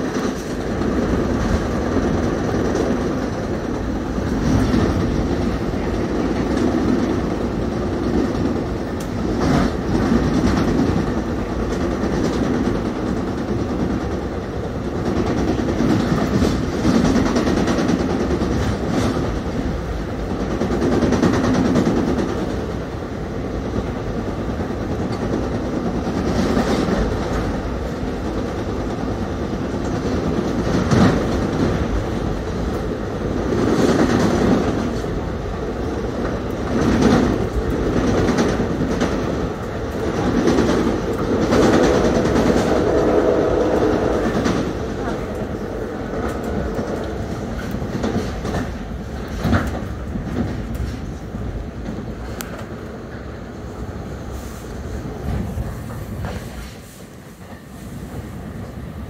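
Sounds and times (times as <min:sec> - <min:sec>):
train wheel knocking: 0:00.0 - 0:53.4
train wheels rumbling on rails: 0:00.0 - 0:59.0.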